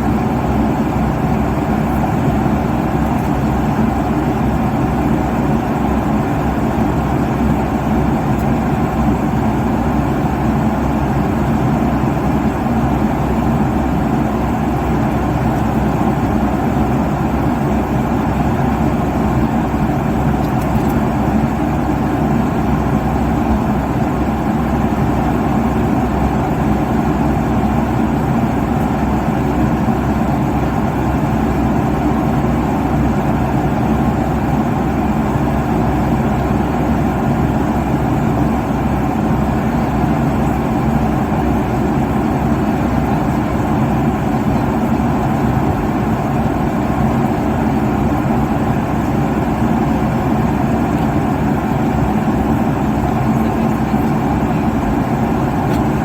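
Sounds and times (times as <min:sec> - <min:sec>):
engine and airflow rush: 0:00.0 - 0:56.0
faint steady hum: 0:00.0 - 0:56.0.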